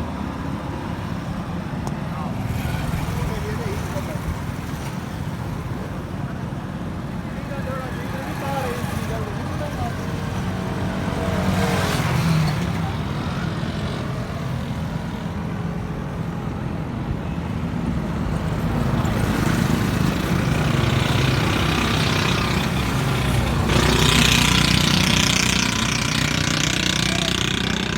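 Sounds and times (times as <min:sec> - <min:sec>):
vehicle engine running: 0:00.0 - 0:27.9.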